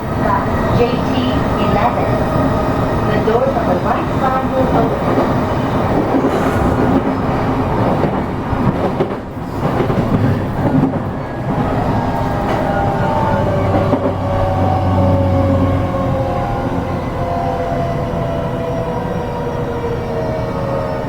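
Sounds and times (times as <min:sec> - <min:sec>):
train wheels rumbling over rails: 0:00.0 - 0:21.0.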